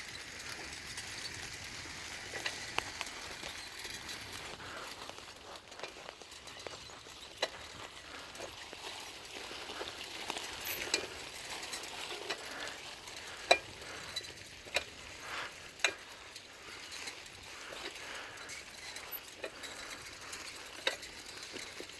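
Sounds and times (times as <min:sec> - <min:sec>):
bicycle tyres crackling on trail: 0:00.0 - 0:21.9
bike clicks and knocks over bumps: 0:00.0 - 0:21.9.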